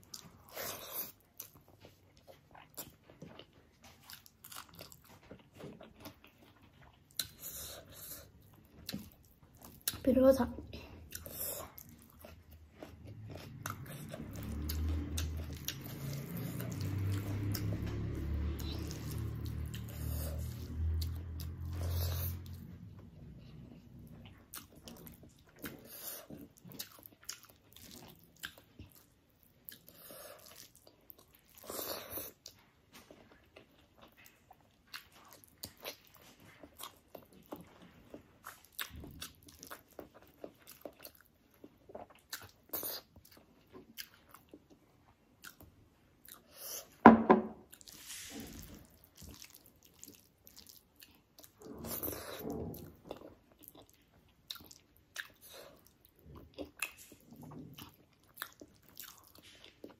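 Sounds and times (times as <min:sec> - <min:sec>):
person chewing wetly: 0:00.0 - 0:10.1, 0:10.7 - 0:47.0, 0:47.6 - 0:59.9.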